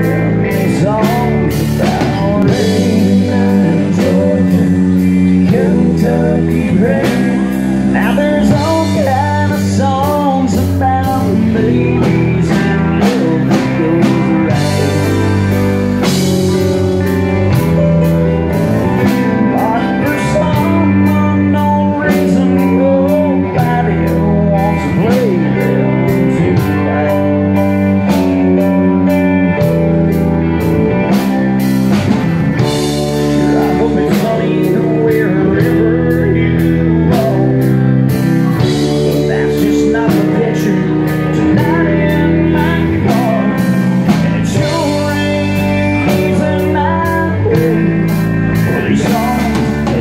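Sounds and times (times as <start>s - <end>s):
live country band playing: 0.0s - 50.0s.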